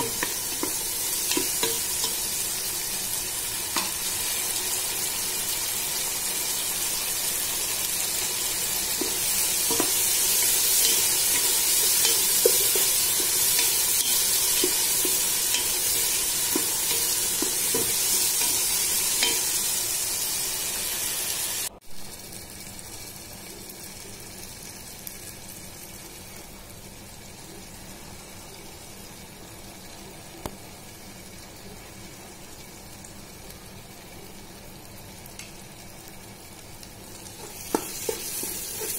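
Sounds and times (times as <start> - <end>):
vegetables sizzling in oil: 0.0 - 38.9.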